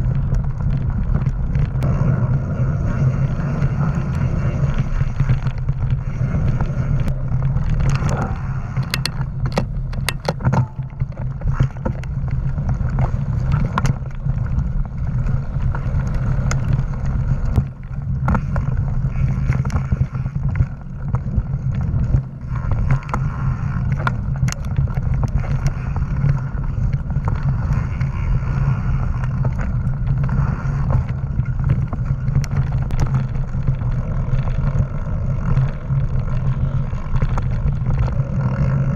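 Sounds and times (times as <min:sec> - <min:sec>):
bike clicking and rattling: 0:00.0 - 0:38.9
bike tyre noise: 0:00.0 - 0:38.9
wind rumble on microphone: 0:00.0 - 0:38.9.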